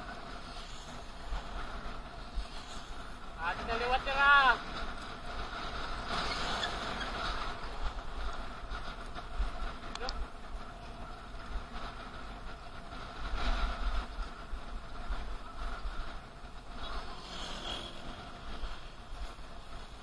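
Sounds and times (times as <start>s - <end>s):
road and traffic noise: 0.0s - 20.0s
wind buffeting microphone: 0.0s - 20.0s.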